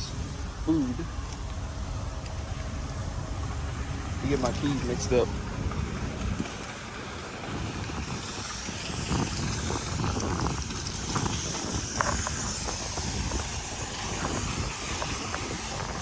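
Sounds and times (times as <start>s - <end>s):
steady low rumbling: 0.0s - 16.0s.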